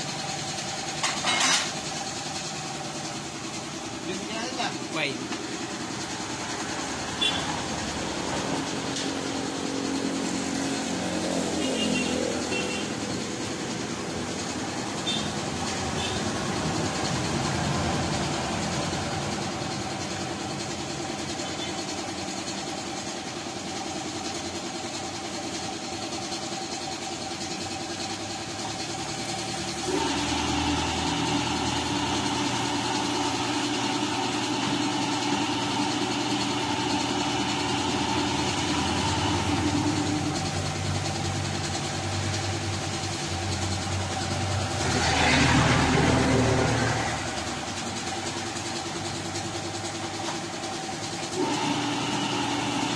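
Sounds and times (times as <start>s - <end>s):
air compressor humming: 0.0s - 52.9s.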